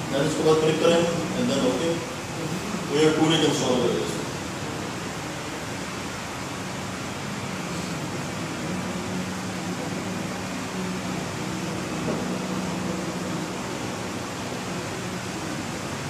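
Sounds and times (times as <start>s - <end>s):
fan running: 0.0s - 16.0s.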